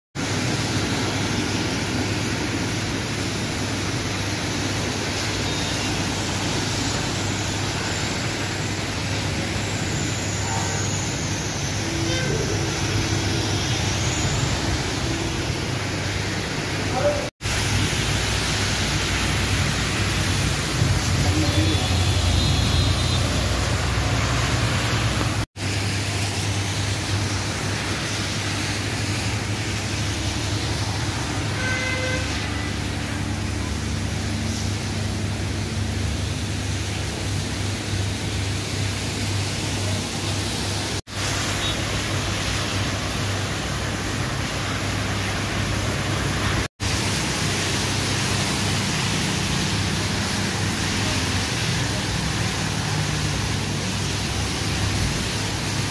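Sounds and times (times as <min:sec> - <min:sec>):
heavy rain hissing: 0:00.2 - 0:55.9
road traffic on wet road: 0:00.2 - 0:55.9.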